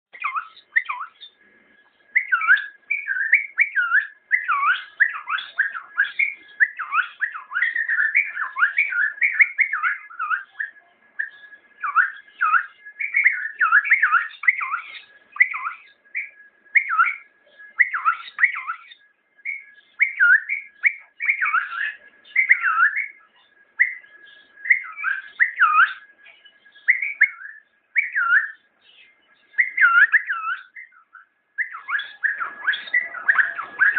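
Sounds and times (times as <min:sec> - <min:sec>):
bird singing whistled phrases: 0:00.1 - 0:01.4, 0:02.1 - 0:33.9.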